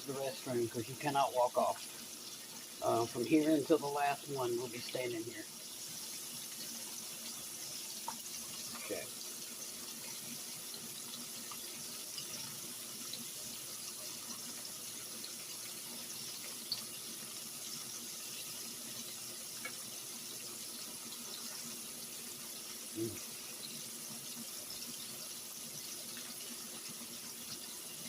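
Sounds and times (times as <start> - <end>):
shrimp sizzling in hot oil: 0.0 - 28.0
oil crackles and pops: 0.3 - 24.9.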